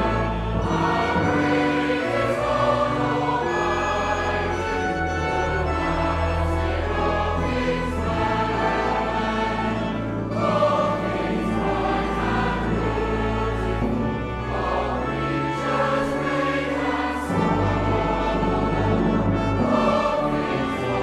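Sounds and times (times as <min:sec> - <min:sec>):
choir singing sustained chords: 0:00.0 - 0:21.0.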